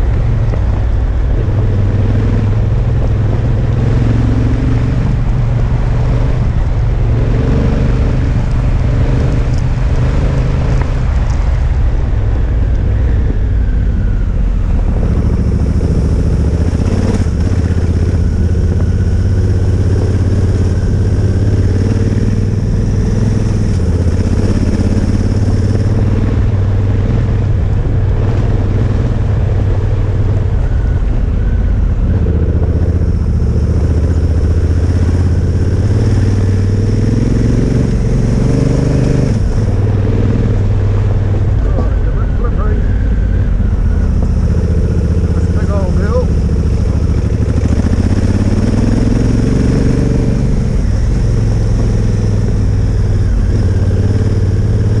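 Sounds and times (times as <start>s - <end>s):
motorcycle engine running: 0.0s - 55.0s
tyres on gravel road: 0.0s - 55.0s.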